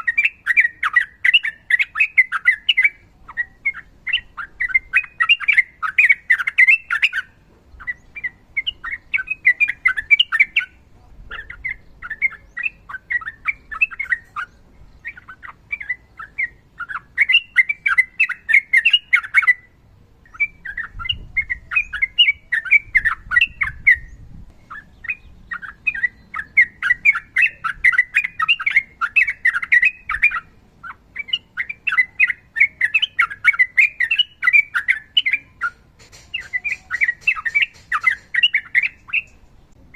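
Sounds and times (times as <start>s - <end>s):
bird singing rapid runs: 0.0s - 39.9s.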